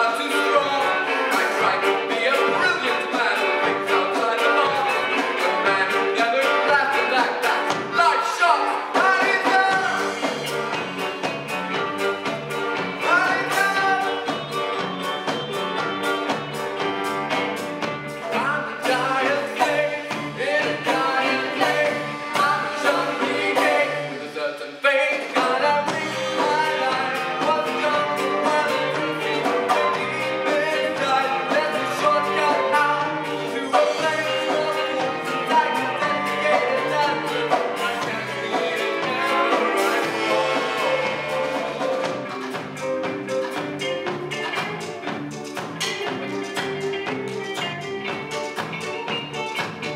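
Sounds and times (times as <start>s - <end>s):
folk music ensemble playing: 0.0s - 24.3s, 25.3s - 49.9s.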